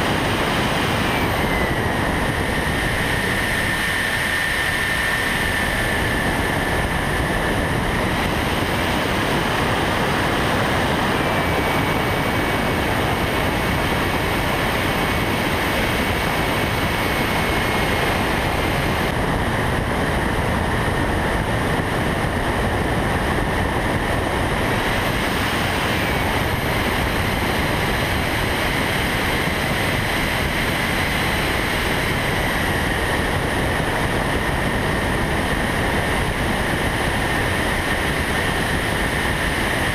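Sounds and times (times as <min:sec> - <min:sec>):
motor whine: 0:00.0 - 0:39.9
wind and propeller rush: 0:00.0 - 0:39.9.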